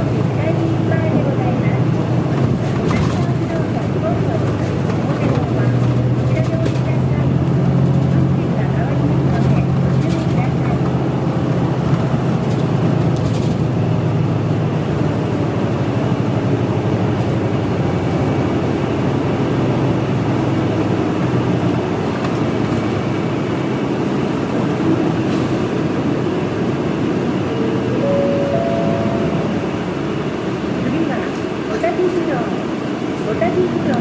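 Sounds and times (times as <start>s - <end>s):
bus engine drone: 0.0s - 34.0s
road noise: 0.0s - 34.0s.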